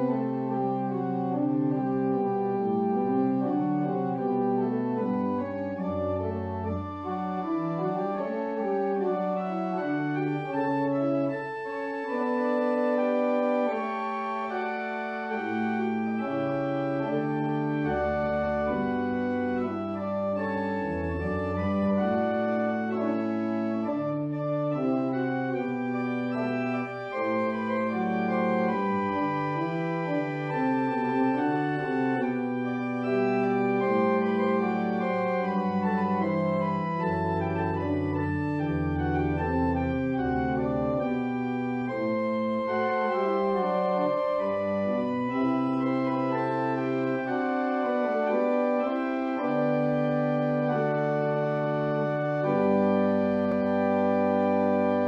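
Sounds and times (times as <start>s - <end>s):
organ music: 0.0s - 55.0s.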